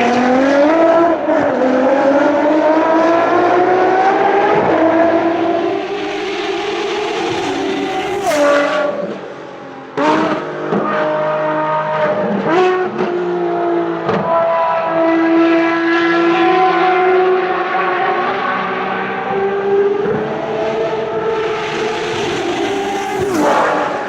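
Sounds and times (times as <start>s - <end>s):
racing car engines passing: 0.0s - 24.0s.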